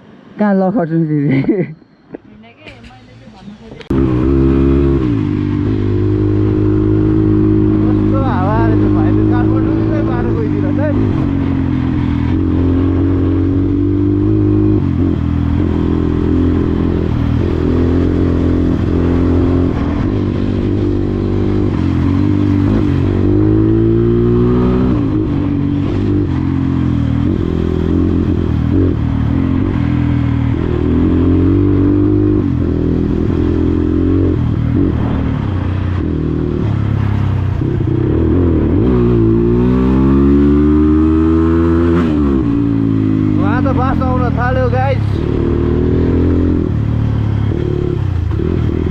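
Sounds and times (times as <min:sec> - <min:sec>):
dirt bike engine revving: 0:03.9 - 0:48.9.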